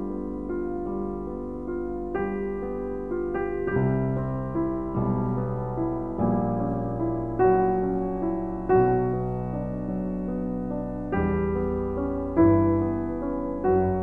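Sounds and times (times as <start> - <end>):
slow solo piano music: 0.0 - 14.0.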